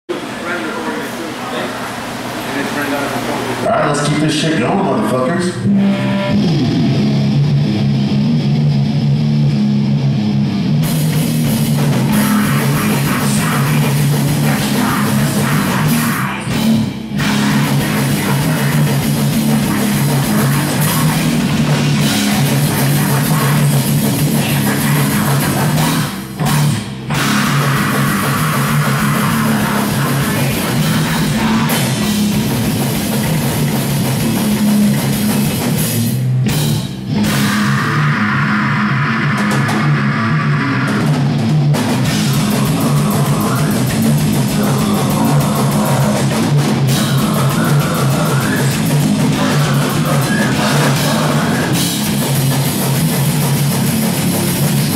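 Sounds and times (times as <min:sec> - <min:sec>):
distorted electric guitars: 0:00.1 - 0:54.9
bass guitar: 0:03.6 - 0:54.9
drum kit: 0:05.5 - 0:54.9.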